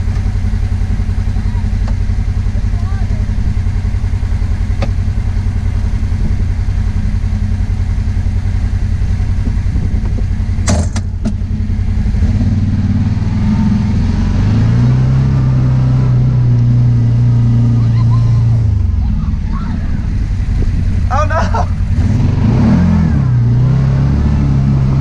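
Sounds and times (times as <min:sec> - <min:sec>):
utility vehicle engine idling: 0:00.0 - 0:25.0.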